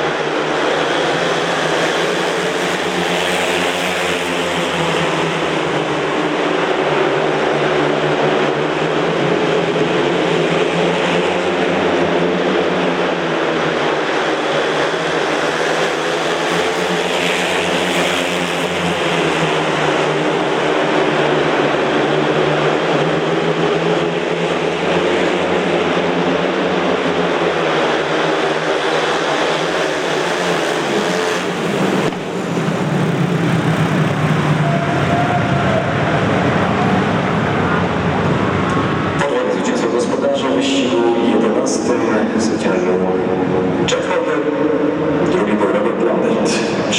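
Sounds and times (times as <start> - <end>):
motorcycles racing at high revs: 0.0 - 46.9.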